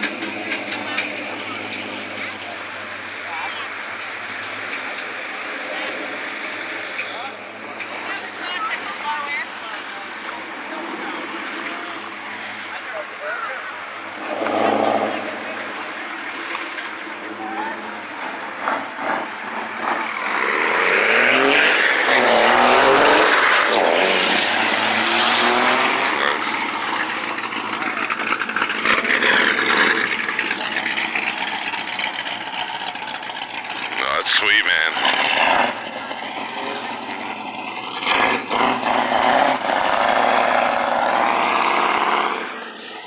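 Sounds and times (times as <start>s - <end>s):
car engine revving: 4.2s - 43.0s.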